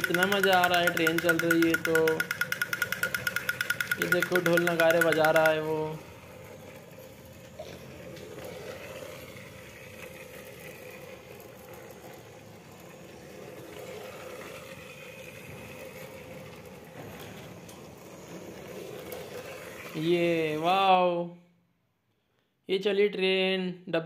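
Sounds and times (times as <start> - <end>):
small electric motor whirring: 0.0 - 20.0
toy train rattling on track: 0.0 - 20.7.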